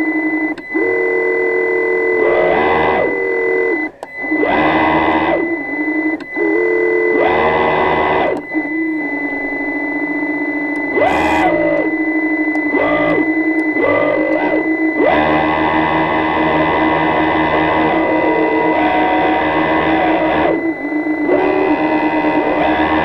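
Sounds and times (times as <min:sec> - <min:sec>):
motor whine underwater: 0:00.0 - 0:23.0
steady high tone: 0:00.7 - 0:23.0.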